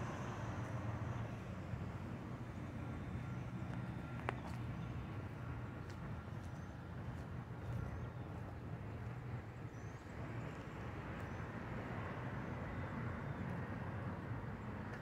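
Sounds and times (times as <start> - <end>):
low outdoor rumble: 0.0 - 12.3.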